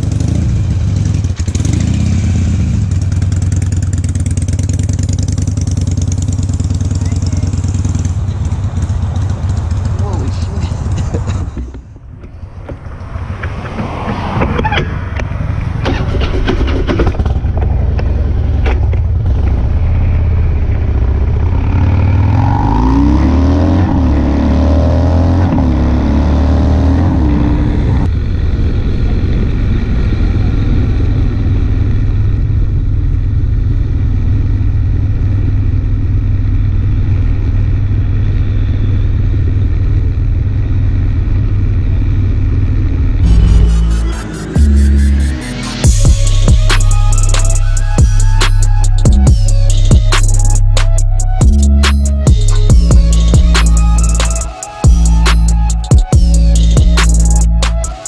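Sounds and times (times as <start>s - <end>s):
motorcycle engine running: 0.0s - 12.9s, 15.1s - 22.9s, 27.9s - 57.9s.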